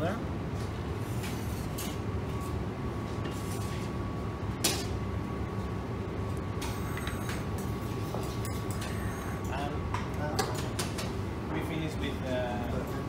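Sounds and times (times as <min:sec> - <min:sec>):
faint hum: 0:00.0 - 0:13.0
low room rumble: 0:00.0 - 0:13.0.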